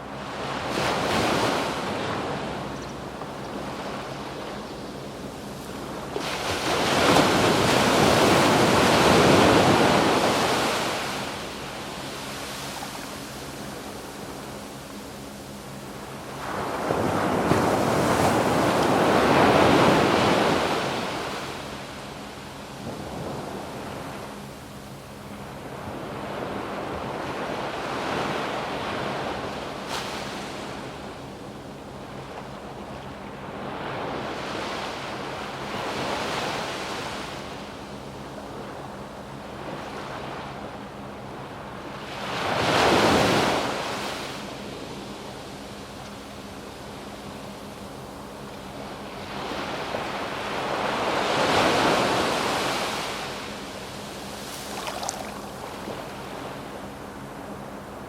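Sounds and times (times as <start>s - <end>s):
waves breaking on beach: 0.0s - 24.5s, 25.3s - 58.0s.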